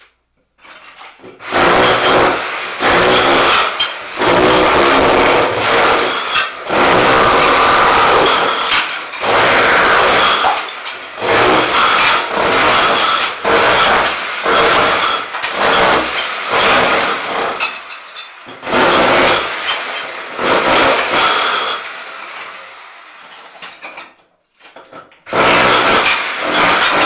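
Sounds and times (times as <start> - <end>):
rotary hammer breaking tiles: 0.6 - 22.6, 23.2 - 27.0.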